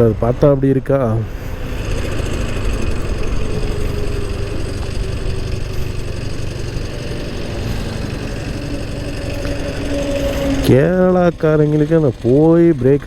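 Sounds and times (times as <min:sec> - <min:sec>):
scooter engine running: 0:00.0 - 0:13.0
wind and road noise: 0:00.0 - 0:13.0.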